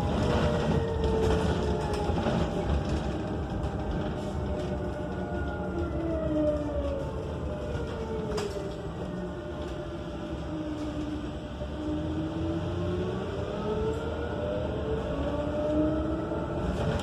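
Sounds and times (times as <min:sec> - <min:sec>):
road rumble: 0:00.0 - 0:17.0.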